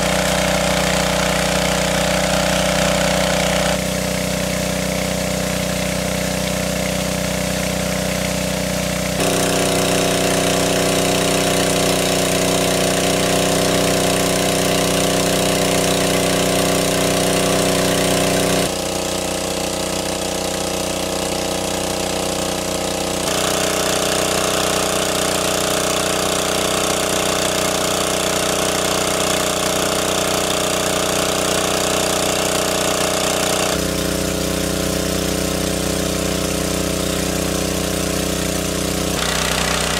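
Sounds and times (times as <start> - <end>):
engine-driven water pump drone: 0.0 - 39.9.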